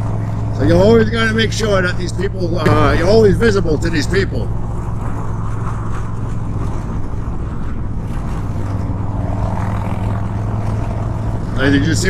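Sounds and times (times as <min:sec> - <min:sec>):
motorcycle engine cruising: 0:00.0 - 0:12.0
wind and road rush: 0:00.0 - 0:12.0.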